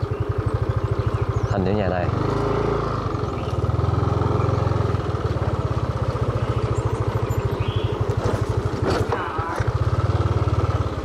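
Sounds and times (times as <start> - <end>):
motorcycle engine puttering: 0.0 - 11.0.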